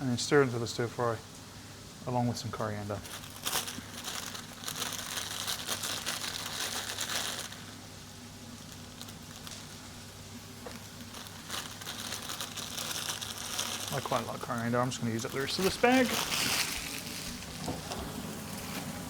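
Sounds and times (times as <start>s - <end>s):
onions sizzling in a frying pan: 0.2s - 19.0s.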